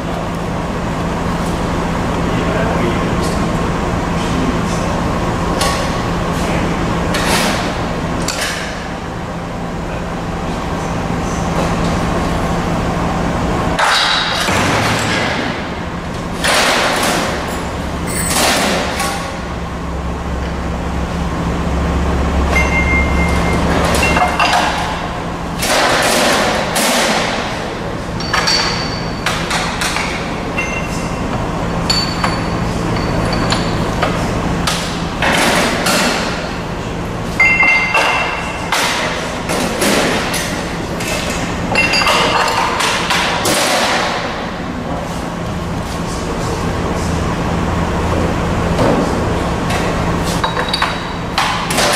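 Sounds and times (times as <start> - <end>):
low machine rumble: 0.0 - 51.9
machine hum: 0.0 - 51.9.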